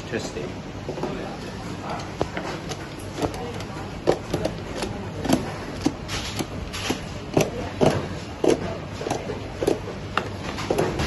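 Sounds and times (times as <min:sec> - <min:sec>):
factory background noise: 0:00.0 - 0:11.0.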